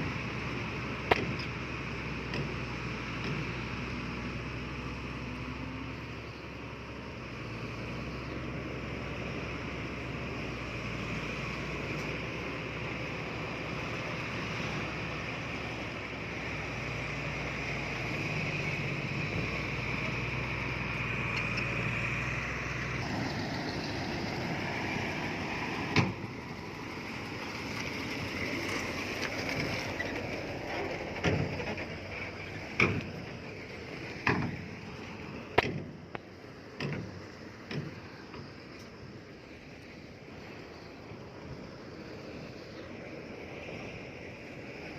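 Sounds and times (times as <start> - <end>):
heavy machine diesel engine running: 0.0 - 44.9.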